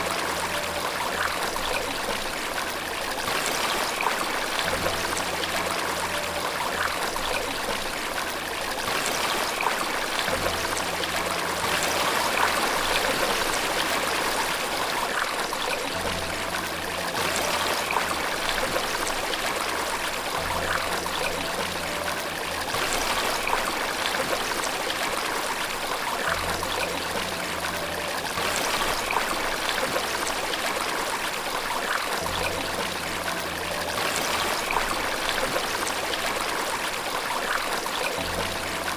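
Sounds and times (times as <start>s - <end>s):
flowing water rushing: 0.0s - 38.9s
soft low music notes: 0.0s - 38.9s.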